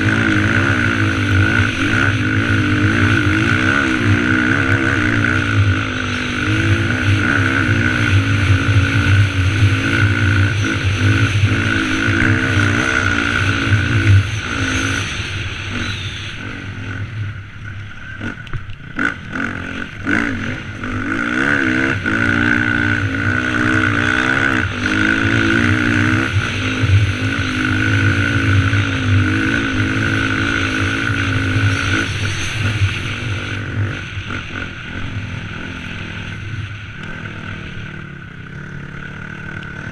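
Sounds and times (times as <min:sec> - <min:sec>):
dirt bike engine running hard: 0:00.0 - 0:39.9.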